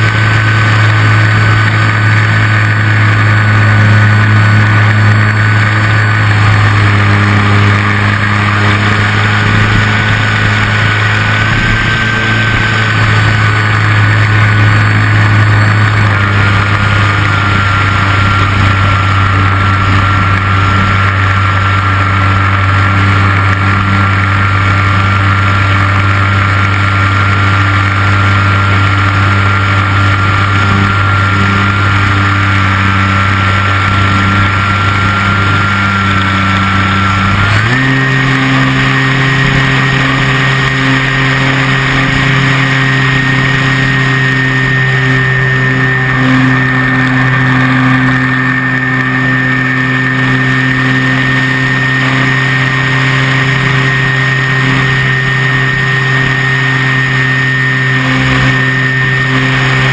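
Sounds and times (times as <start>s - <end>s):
model plane motor droning: 0.0s - 59.9s.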